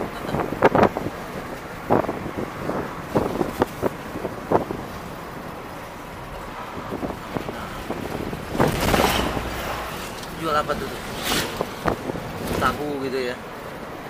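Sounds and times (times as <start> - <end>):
engine and road hum: 0.0 - 14.0
wind noise: 0.0 - 14.0.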